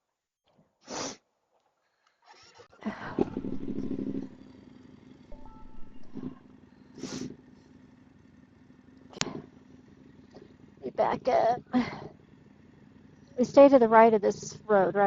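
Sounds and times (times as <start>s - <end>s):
motorcycle engine idling: 2.9s - 15.0s.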